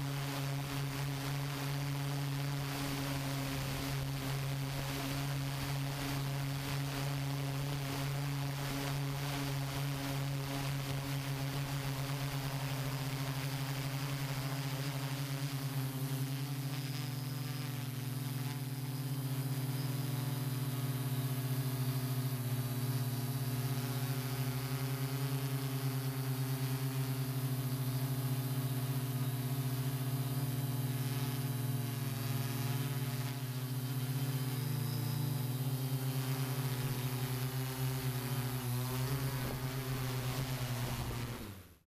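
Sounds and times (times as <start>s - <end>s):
drone propellers humming: 0.1s - 41.8s.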